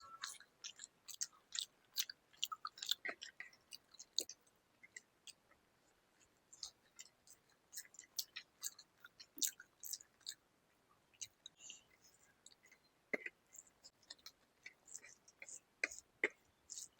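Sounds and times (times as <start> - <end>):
person chewing food: 0.0 - 10.4, 11.1 - 16.9.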